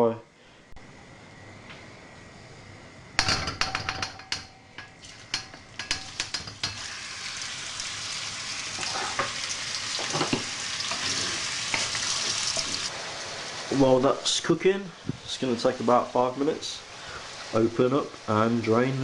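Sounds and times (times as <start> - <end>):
chicken sizzling in a wok: 3.6 - 19.0.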